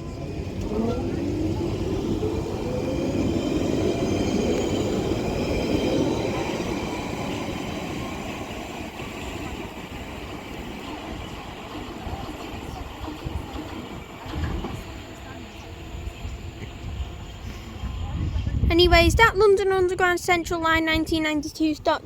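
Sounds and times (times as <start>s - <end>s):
train traction motors whining: 0.0s - 18.6s
train rumble: 0.0s - 22.0s.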